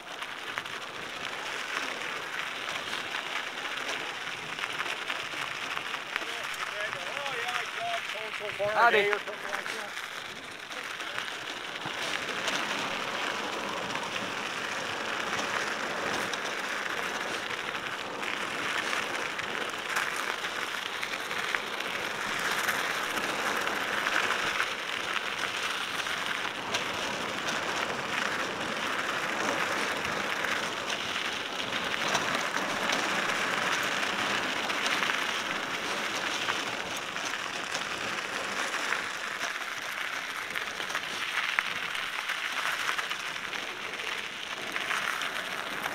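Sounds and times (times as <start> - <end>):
bike ticks and rattles: 0.0 - 45.9
bike tyres rolling on dirt: 0.0 - 45.9.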